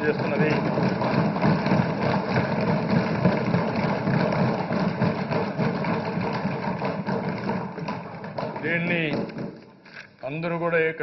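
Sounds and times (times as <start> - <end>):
hands thumping wooden desks: 0.0 - 9.8.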